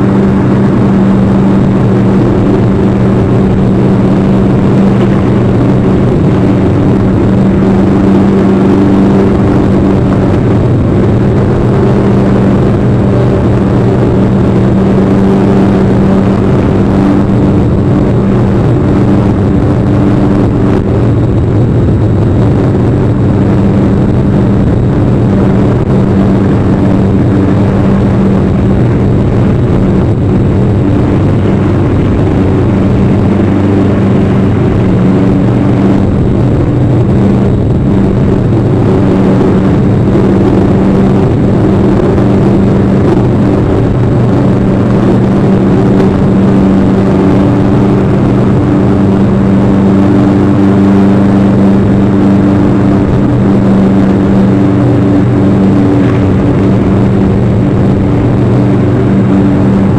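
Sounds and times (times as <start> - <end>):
loud low drone: 0.0 - 59.9
rushing haze: 0.0 - 59.9.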